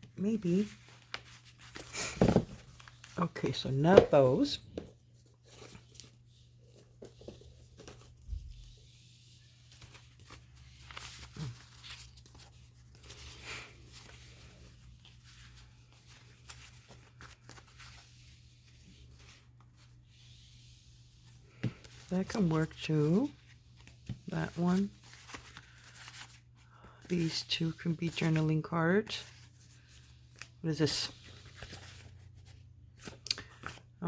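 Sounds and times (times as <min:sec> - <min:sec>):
paper rustling and crinkling: 0:00.0 - 0:20.4, 0:21.2 - 0:34.0.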